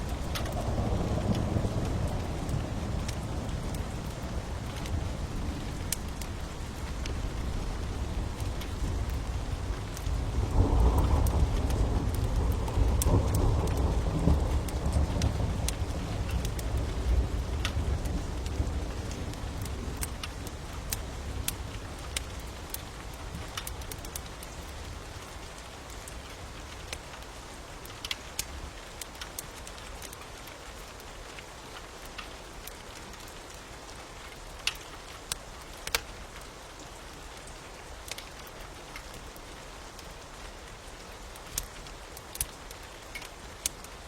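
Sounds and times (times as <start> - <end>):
steady rain falling: 0.0 - 44.0
wood fire crackling: 0.0 - 44.0.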